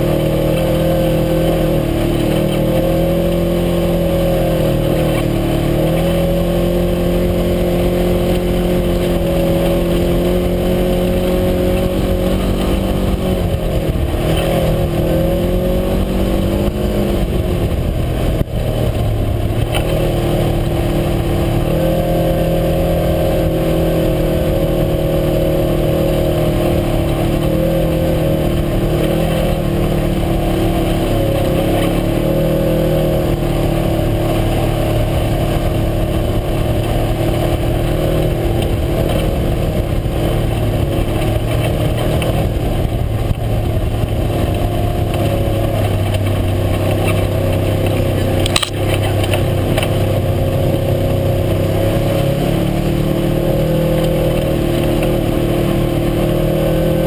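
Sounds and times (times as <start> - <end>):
utility vehicle engine running: 0.0 - 57.0.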